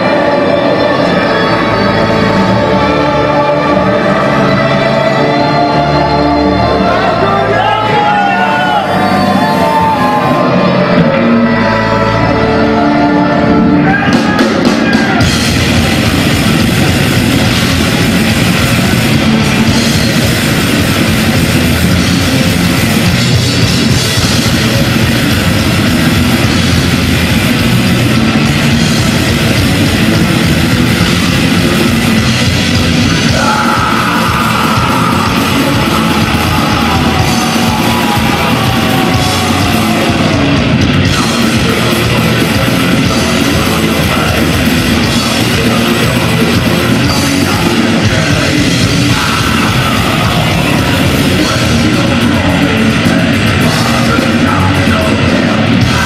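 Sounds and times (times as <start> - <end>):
heavy metal band playing live: 0.0 - 56.0.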